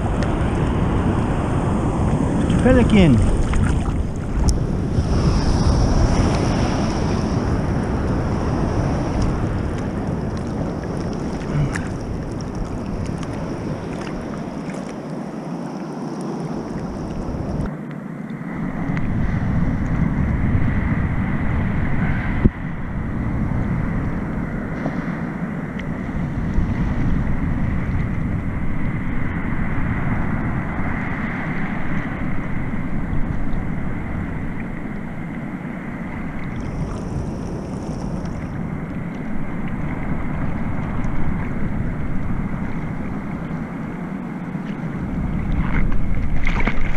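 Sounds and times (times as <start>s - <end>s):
ocean surf washing: 0.0s - 46.9s
wind on microphone: 0.0s - 46.9s.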